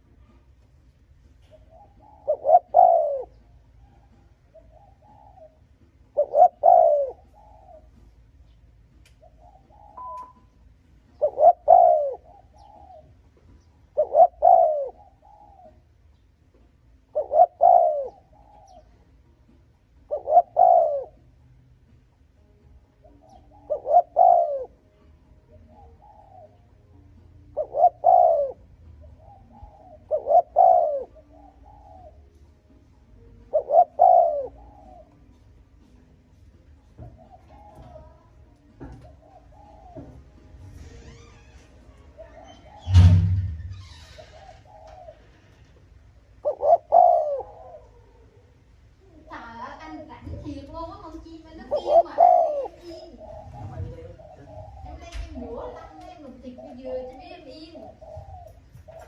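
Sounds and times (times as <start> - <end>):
dove cooing: 0.0 - 21.5, 22.3 - 59.0.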